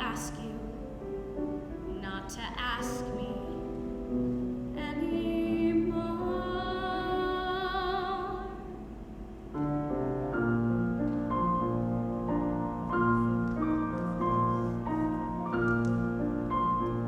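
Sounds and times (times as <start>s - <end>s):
solo piano playing: 0.0s - 17.0s.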